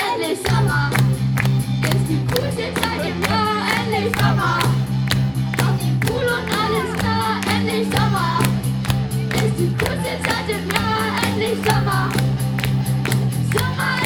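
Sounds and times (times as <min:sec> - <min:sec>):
sung vocals: 0:00.0 - 0:14.0
band playing a song: 0:00.1 - 0:14.0.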